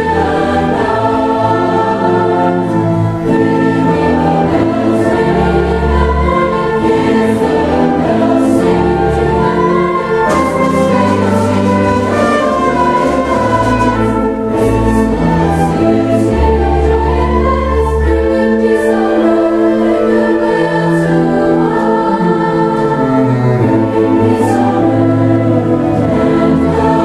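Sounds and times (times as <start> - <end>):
choir singing with orchestra: 0.0 - 27.0.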